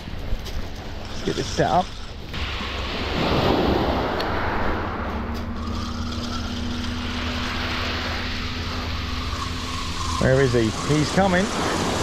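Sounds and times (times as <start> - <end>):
small waves washing onto shingle: 0.0 - 12.0
steady low hum: 0.0 - 12.0
wind rumbling on microphone: 0.0 - 12.0.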